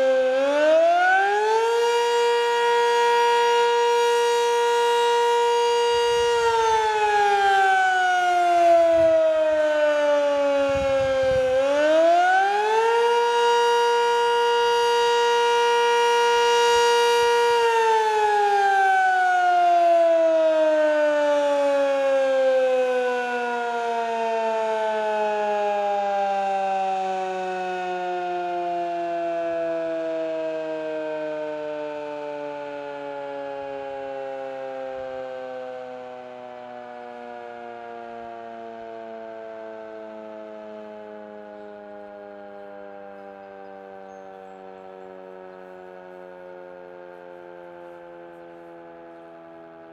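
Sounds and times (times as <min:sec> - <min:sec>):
outdoor warning siren winding: 0:00.0 - 0:49.9.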